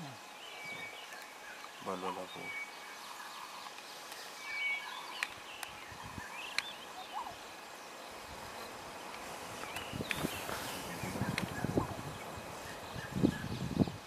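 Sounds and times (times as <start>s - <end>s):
bird chirps: 0.0s - 14.0s
steady hiss: 0.0s - 14.0s.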